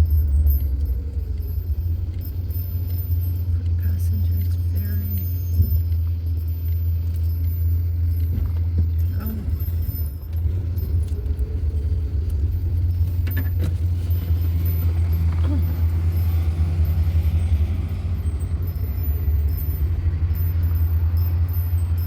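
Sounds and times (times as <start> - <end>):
road noise: 0.0 - 22.0
van engine rumble: 0.0 - 22.0.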